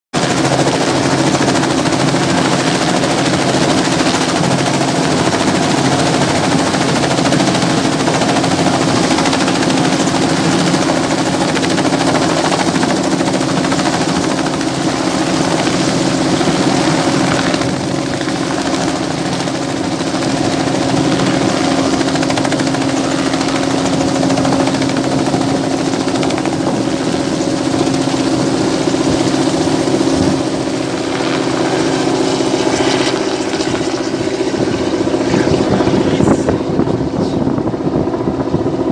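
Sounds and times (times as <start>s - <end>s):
helicopter rotor chop: 0.2s - 38.9s.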